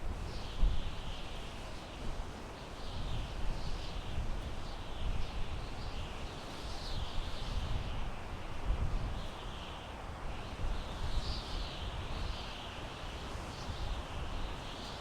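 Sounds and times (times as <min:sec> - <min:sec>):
wind through pine trees: 0:00.0 - 0:15.0.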